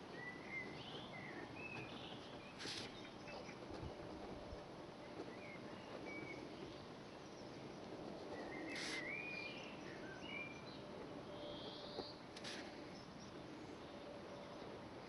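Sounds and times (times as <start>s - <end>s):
faint birds chirping: 0.0s - 15.0s
steady background hiss: 0.0s - 15.0s.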